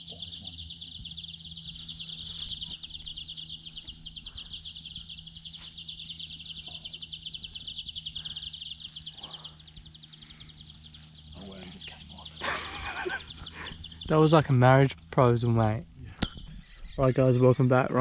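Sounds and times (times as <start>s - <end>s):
animals calling in pulsing trill: 0.0s - 15.4s, 16.4s - 18.0s.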